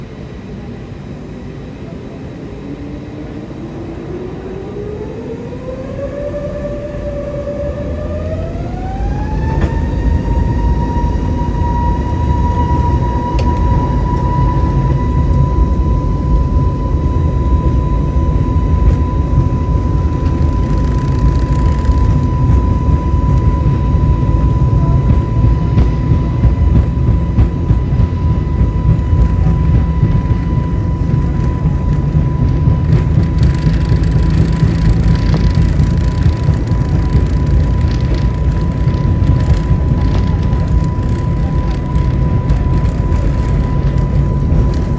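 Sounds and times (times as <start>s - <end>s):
deep rumble of takeoff roll: 0.0s - 44.9s
jet engine whine rising: 0.0s - 44.9s.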